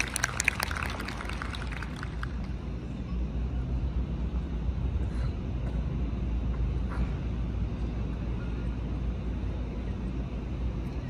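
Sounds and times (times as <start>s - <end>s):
low outdoor city rumble: 0.0s - 11.0s.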